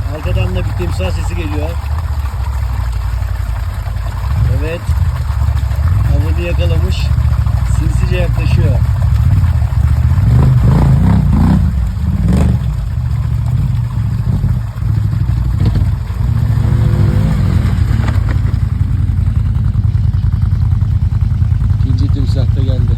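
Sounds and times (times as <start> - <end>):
rushing water rumble: 0.0 - 22.9.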